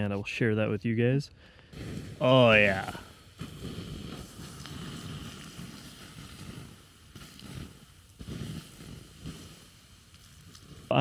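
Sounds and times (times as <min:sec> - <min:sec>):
water splashing on campfire embers: 0:01.8 - 0:11.0.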